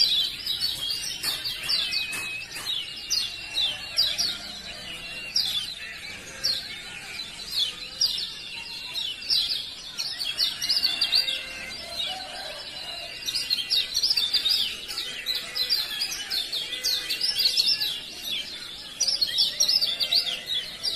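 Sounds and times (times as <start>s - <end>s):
bird rapid high chirps: 0.0s - 20.9s.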